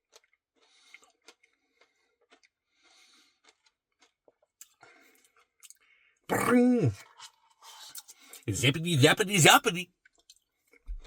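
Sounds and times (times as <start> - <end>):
soft chewing of ice cream: 0.0 - 8.5, 9.9 - 11.0.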